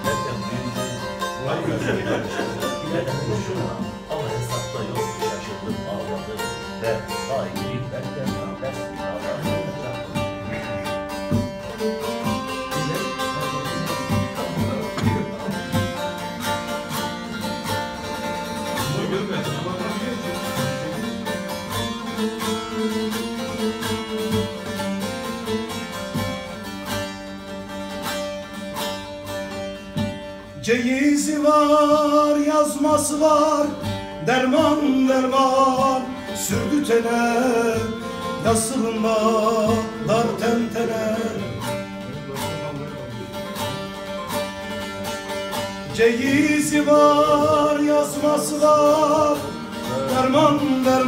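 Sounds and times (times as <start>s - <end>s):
long-necked lute plucking: 0.0s - 51.0s.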